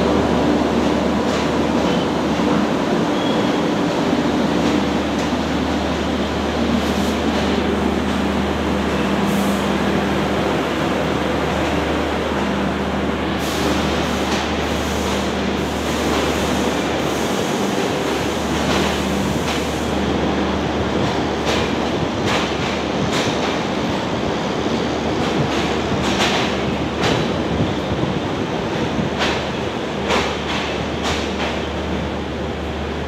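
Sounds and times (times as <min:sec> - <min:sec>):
wheels clacking on rails: 0:00.0 - 0:12.7, 0:13.3 - 0:32.1
train rumbling past: 0:00.0 - 0:33.0.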